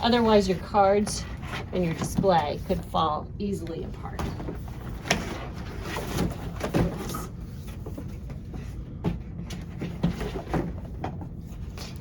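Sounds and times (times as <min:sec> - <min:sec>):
cardboard scraping and rustling: 0:00.0 - 0:03.0, 0:04.0 - 0:12.0.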